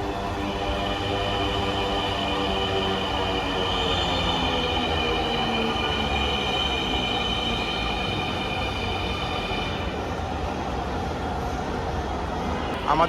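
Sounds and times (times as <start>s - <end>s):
electric train high whine: 0.0s - 13.0s.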